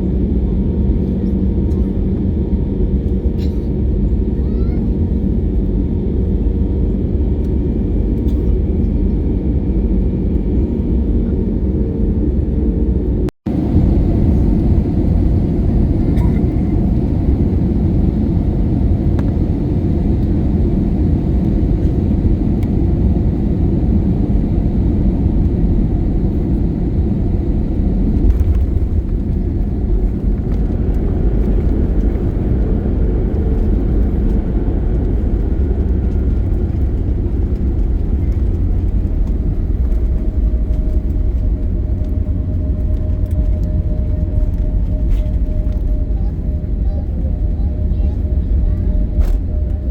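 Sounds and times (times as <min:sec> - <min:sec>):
jet engine cabin noise: 0:00.0 - 0:49.9.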